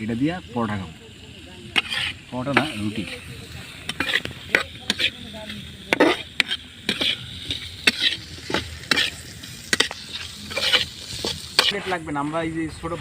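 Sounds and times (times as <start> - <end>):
shrimp sizzling: 0.0 - 13.0
spoon scraping in a pan: 0.6 - 12.0.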